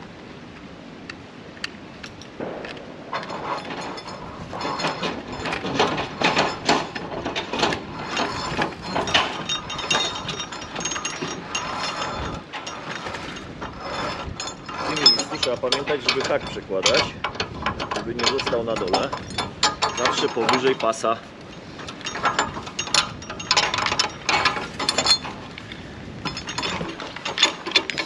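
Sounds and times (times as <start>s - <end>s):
metal clicking and rattling: 2.0s - 28.0s.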